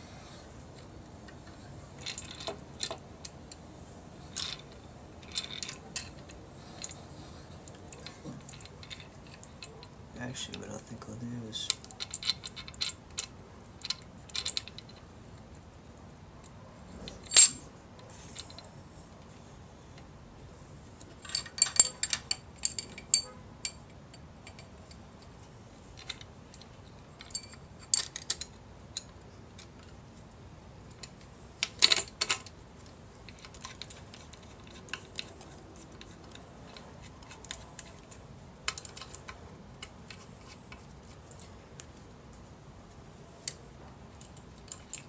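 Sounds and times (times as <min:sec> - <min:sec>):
metal parts and tools clinking: 0:00.8 - 0:03.6, 0:04.2 - 0:15.0, 0:16.4 - 0:18.7, 0:21.0 - 0:30.0, 0:30.9 - 0:42.4, 0:43.4 - 0:45.0.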